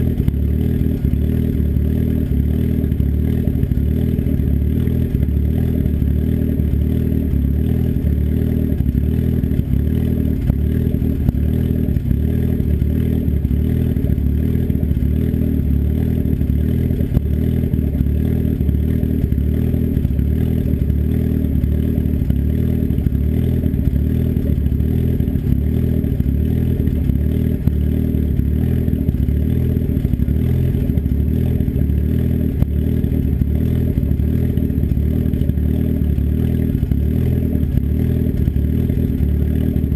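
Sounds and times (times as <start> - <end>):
loud engine idling: 0.0 - 39.9.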